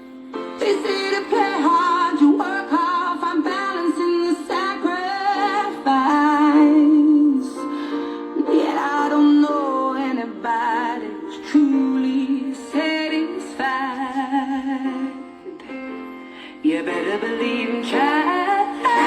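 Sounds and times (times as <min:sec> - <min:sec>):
woman singing with vibrato: 0:00.6 - 0:07.6, 0:08.4 - 0:15.4, 0:16.6 - 0:19.0.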